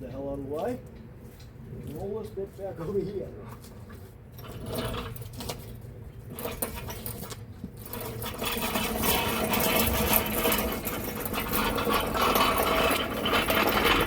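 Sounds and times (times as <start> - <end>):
casters rattling on concrete: 2.0 - 14.0.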